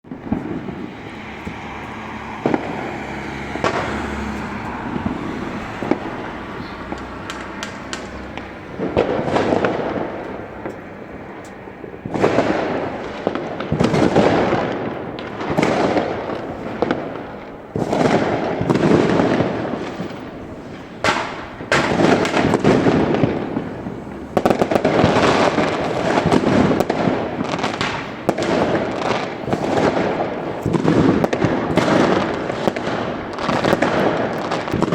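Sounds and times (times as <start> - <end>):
firecrackers crackling: 0.0 - 34.9
fireworks bangs: 0.0 - 34.9.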